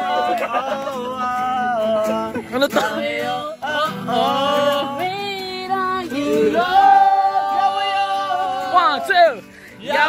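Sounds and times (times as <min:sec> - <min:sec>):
acoustic guitar strumming: 0:00.0 - 0:10.0
young men singing together: 0:00.0 - 0:10.0.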